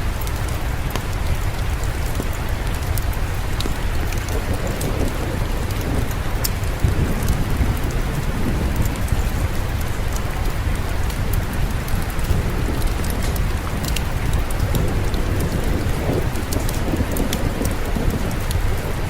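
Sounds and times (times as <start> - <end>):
distant thunder rumble: 0.0 - 19.0
steady rain falling: 0.0 - 19.0.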